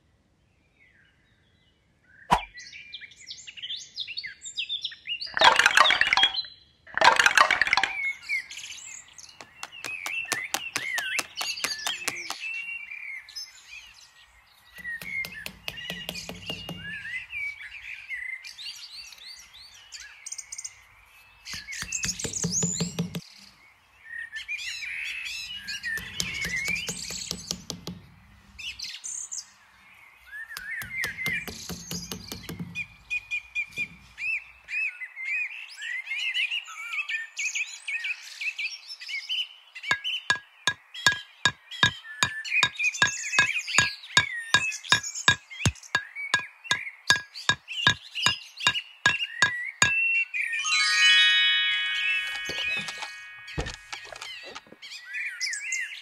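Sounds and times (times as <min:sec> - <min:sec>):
small birds chirping: 0:00.8 - 0:51.0, 0:52.0 - 0:56.0.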